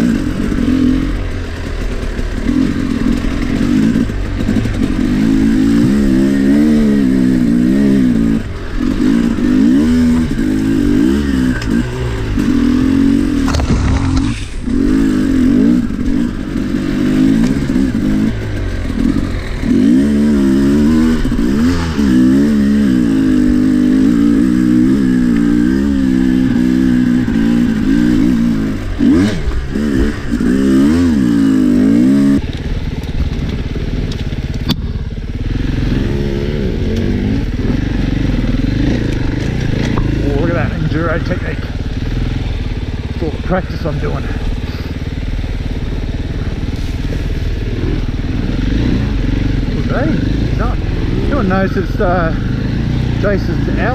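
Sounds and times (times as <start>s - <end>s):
dirt bike two-stroke engine revving: 0.0s - 53.9s.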